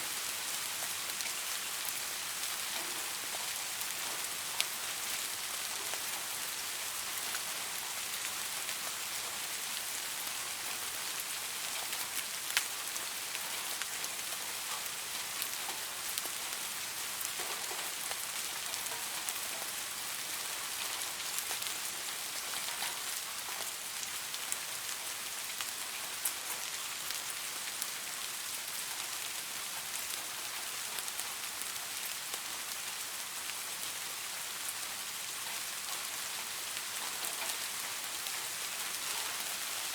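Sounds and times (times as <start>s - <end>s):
steady rain hiss: 0.0s - 39.9s
raindrops pattering: 0.1s - 39.9s.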